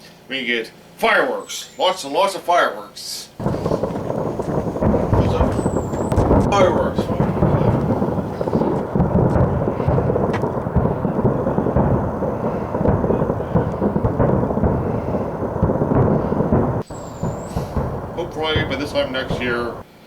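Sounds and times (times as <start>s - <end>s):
fireworks booming and crackling: 3.4s - 19.9s.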